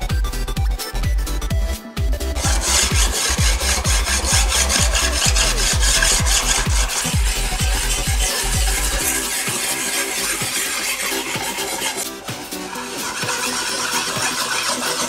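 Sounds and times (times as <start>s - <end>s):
electronic dance music: 1.1s - 15.0s
sharpening stone scraping steel: 2.4s - 15.0s.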